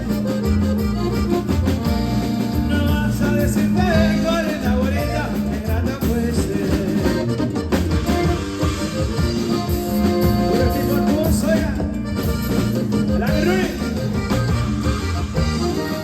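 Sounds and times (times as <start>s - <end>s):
accordion melody: 0.0s - 16.0s
live band playing: 0.0s - 16.0s.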